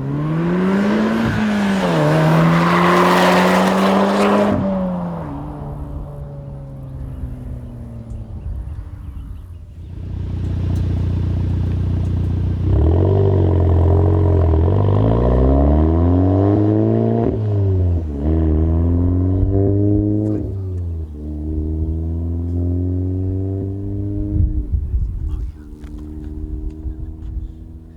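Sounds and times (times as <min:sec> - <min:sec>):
car engine accelerating with upshifts: 0:00.0 - 0:27.9.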